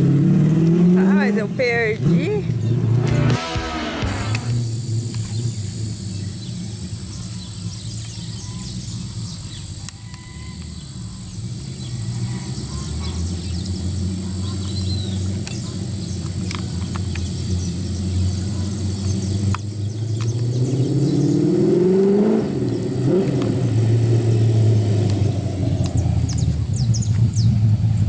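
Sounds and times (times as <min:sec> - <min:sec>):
engine low rumble: 0:00.0 - 0:28.0
small birds chirping: 0:04.3 - 0:27.7.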